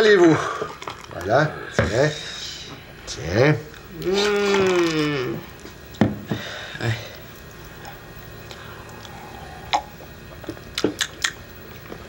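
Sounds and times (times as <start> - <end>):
sipping: 0.2 - 12.0.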